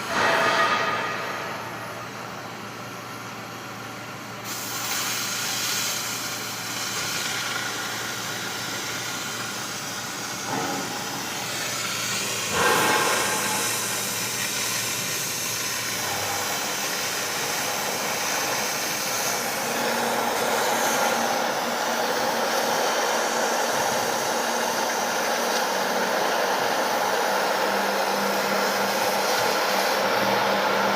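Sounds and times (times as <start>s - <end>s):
machine hissing and humming: 0.0s - 30.9s.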